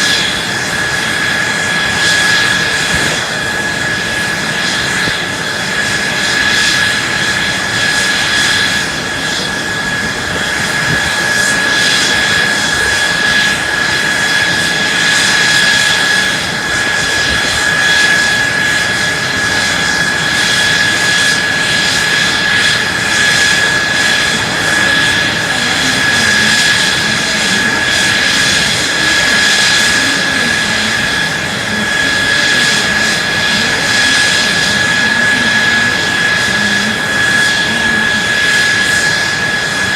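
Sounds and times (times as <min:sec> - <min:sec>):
jet engine roaring with whine: 0:00.0 - 0:39.9.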